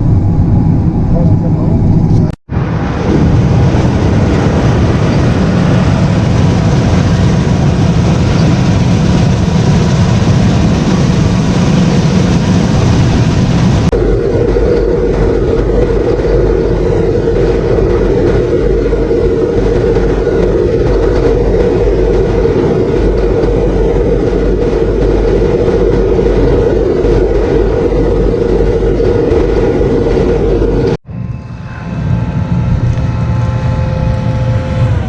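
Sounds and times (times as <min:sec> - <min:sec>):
quieter engine sound: 0:00.0 - 0:35.0
vehicle engine running: 0:00.0 - 0:35.0.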